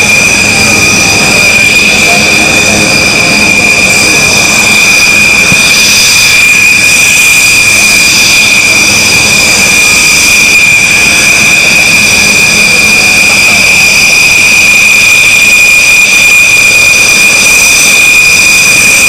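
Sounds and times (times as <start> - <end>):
jet engine whining: 0.0 - 19.0.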